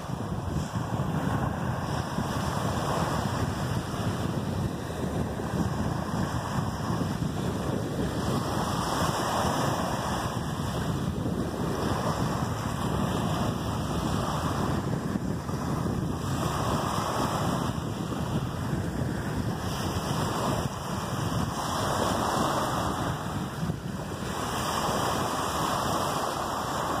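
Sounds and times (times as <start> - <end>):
small waves breaking on beach: 0.0 - 27.0
wind rumbling on microphone: 0.0 - 27.0.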